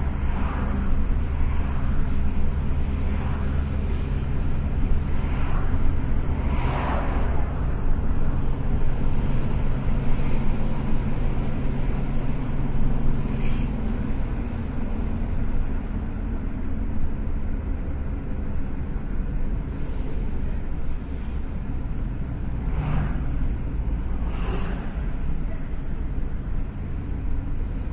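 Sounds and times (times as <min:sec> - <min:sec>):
vehicle engine and road rumble: 0:00.0 - 0:27.9.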